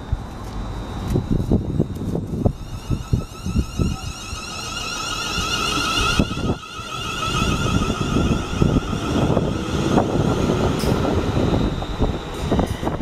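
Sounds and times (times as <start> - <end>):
train wheels rumbling on track: 0.0 - 13.0
rail joint clicks and clatter: 0.4 - 13.0.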